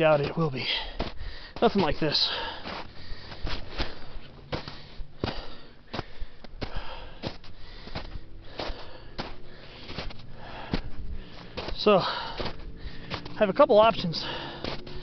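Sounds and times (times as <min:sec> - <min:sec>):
footsteps on trail: 0:00.0 - 0:15.0
person breathing: 0:00.8 - 0:01.6, 0:02.2 - 0:13.3, 0:14.2 - 0:15.0.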